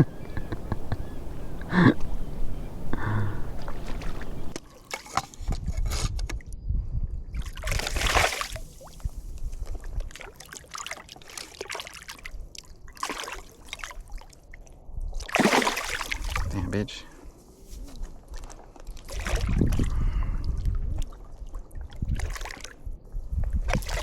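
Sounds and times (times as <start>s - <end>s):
water sloshing and splashing: 1.3s - 6.5s, 7.3s - 16.5s, 17.8s - 24.0s.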